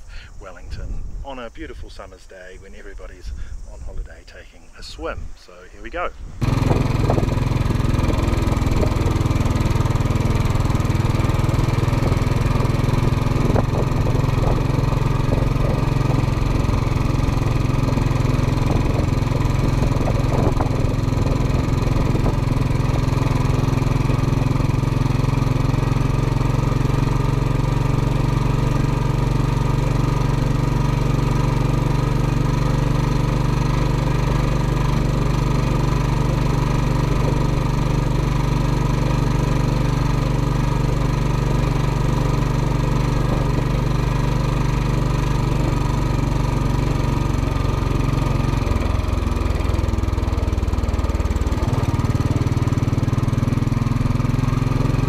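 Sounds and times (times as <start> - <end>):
motorcycle engine running: 6.4 - 55.0.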